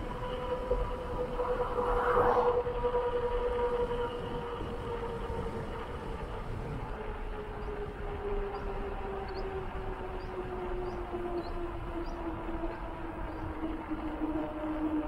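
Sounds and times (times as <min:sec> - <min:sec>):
bicycle tyres whining on asphalt: 0:00.0 - 0:15.0
wind rumble on microphone: 0:00.0 - 0:15.0.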